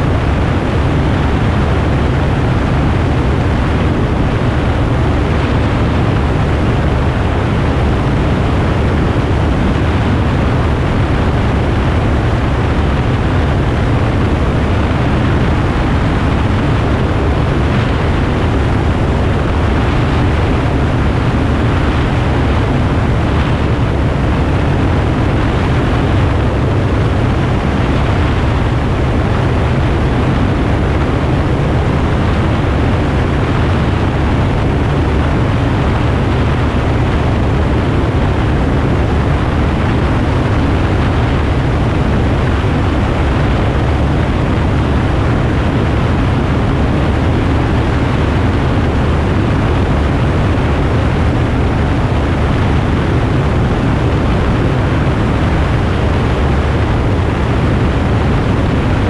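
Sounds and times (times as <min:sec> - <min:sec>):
aircraft engine and propeller drone: 0:00.0 - 0:59.0
wind rush: 0:00.0 - 0:59.0.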